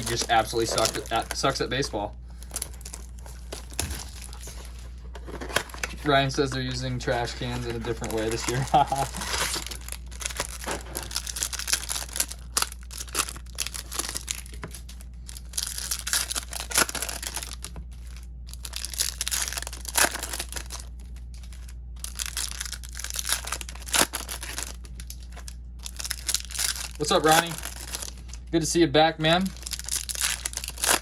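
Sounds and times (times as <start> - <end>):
foil wrappers crinkling and tearing: 0.0 - 31.0
steady low hum: 0.0 - 31.0.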